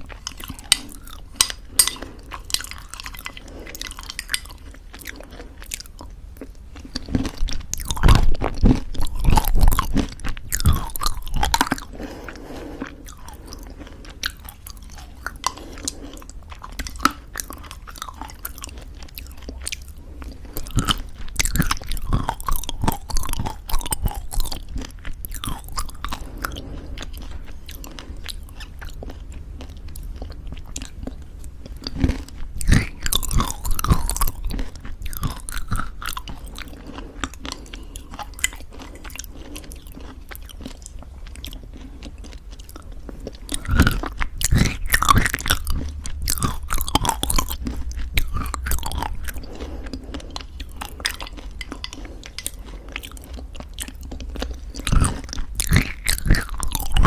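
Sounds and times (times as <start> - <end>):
chewing crunchy granola: 0.0 - 57.0
wet mouth sounds: 0.0 - 57.0.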